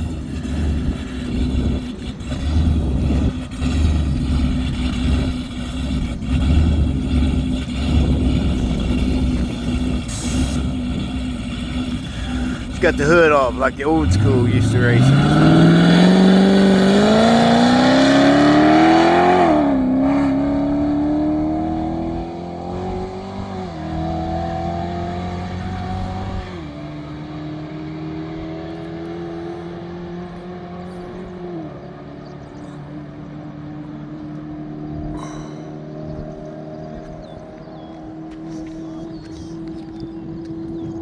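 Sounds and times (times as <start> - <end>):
race car engine accelerating: 0.0 - 41.0.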